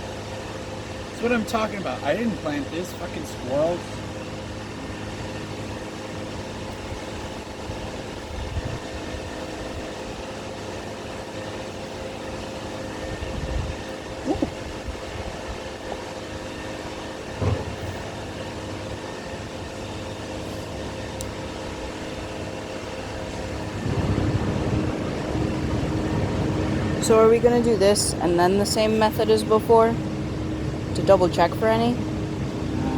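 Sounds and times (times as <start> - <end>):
steady mechanical drone: 0.0 - 32.9.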